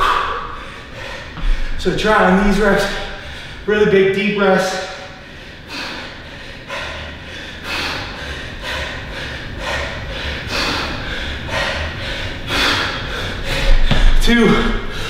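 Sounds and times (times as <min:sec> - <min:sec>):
man breathing hard: 0:00.0 - 0:03.7, 0:04.6 - 0:15.0.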